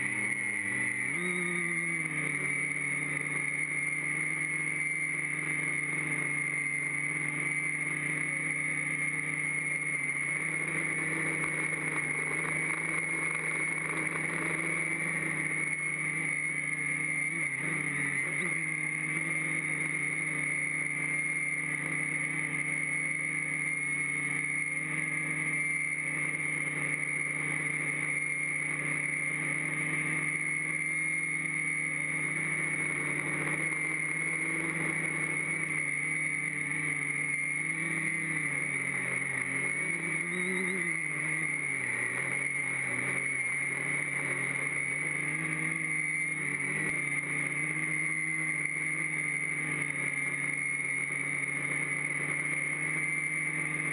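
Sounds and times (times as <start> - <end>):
high whine: 0.0 - 53.9
quadcopter motors buzzing: 0.0 - 53.9.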